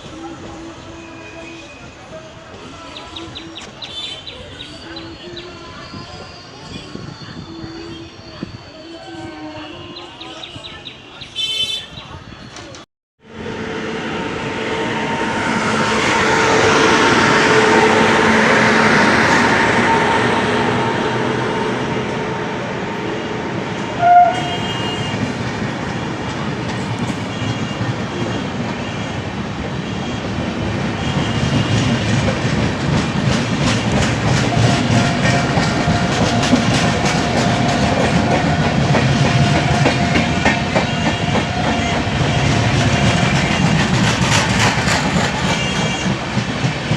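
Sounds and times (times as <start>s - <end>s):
train rumbling past: 0.0s - 46.9s
train horn toot: 3.0s - 12.1s, 13.3s - 25.4s, 27.0s - 32.6s, 33.6s - 46.3s.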